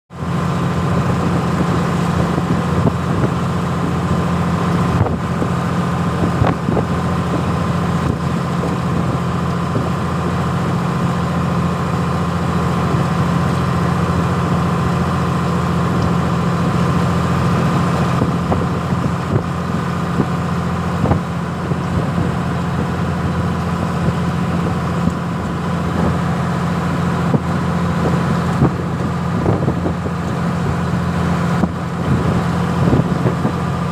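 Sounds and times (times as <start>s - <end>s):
ship engine drone: 0.1s - 33.9s.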